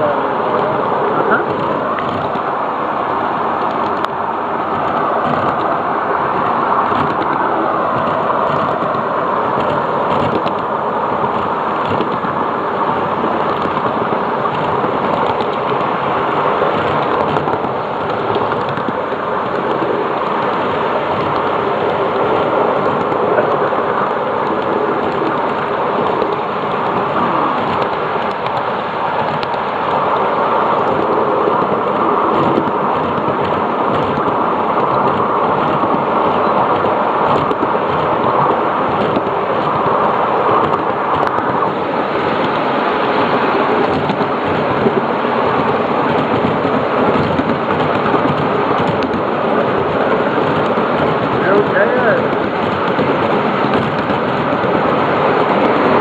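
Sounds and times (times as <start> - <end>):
miniature train rumble and hiss: 0.0 - 56.0.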